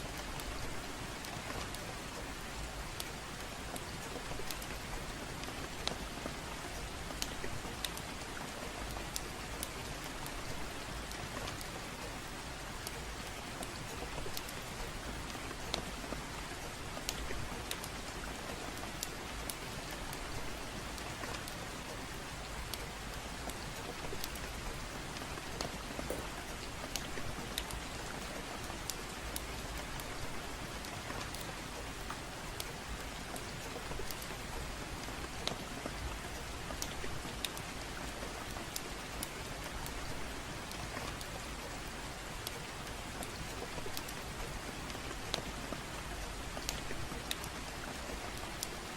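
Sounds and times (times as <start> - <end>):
gentle rain falling: 0.0 - 48.9
wood fire crackling: 0.1 - 48.9.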